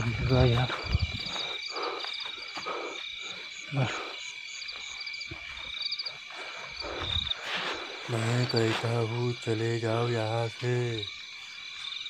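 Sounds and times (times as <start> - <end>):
leaves and brush rustling: 0.0 - 10.3
frogs croaking: 0.0 - 12.0
insects calling: 0.0 - 12.0.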